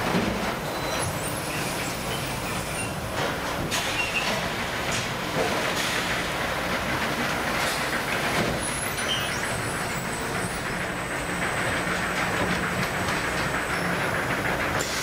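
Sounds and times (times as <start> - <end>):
machine whirring and rattling: 0.1 - 15.0.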